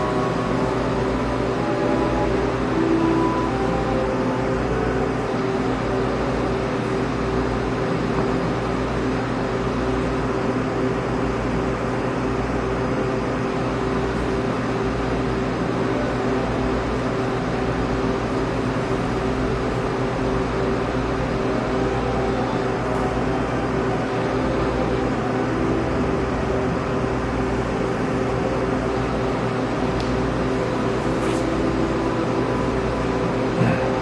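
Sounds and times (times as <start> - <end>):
droning music: 0.0 - 10.2, 13.7 - 34.0.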